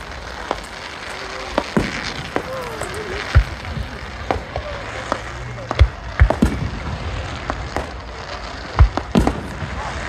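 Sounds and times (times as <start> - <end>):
deep firework booms: 0.0 - 10.0
fireworks bangs and crackles: 0.0 - 10.0.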